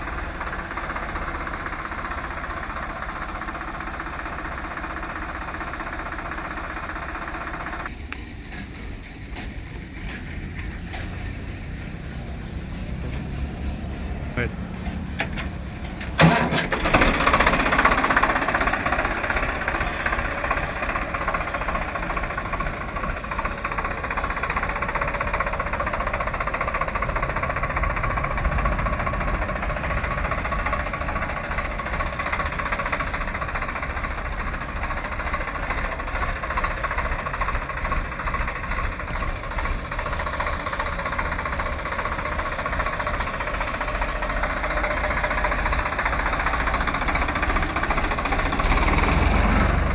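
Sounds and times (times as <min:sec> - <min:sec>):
tractor diesel engine chugging: 0:00.0 - 0:49.9.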